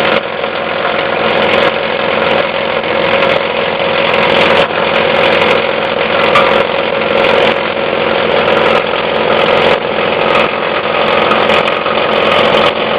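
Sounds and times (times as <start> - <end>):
plastic shredder drone: 0.0 - 12.9.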